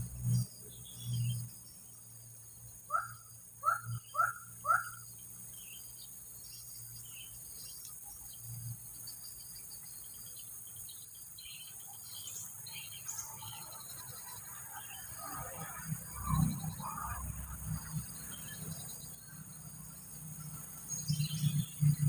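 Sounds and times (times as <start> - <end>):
birds chirping: 0.0 - 22.0
insects chirping: 0.0 - 22.0.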